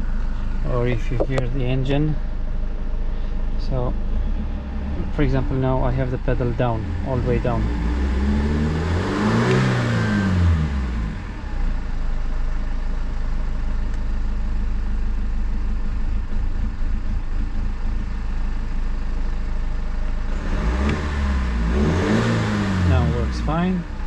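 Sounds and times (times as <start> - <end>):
diesel engine revving: 0.0 - 12.8, 15.4 - 24.0.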